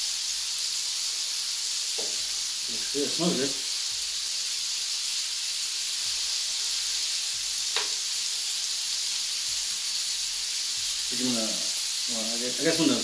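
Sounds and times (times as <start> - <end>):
food sizzling on grill: 0.0 - 13.0.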